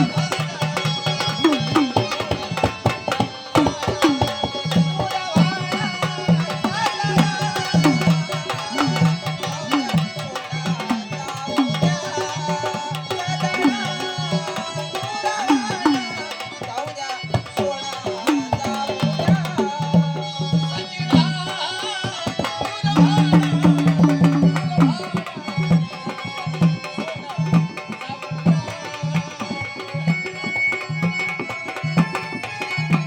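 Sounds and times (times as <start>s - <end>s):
hand drum steady rhythm: 0.0s - 33.0s.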